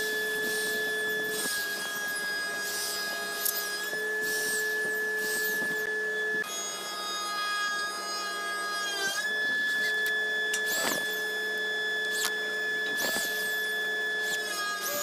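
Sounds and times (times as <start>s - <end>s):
power tool motor running: 0.0s - 15.0s
tool cutting wood: 0.0s - 15.0s.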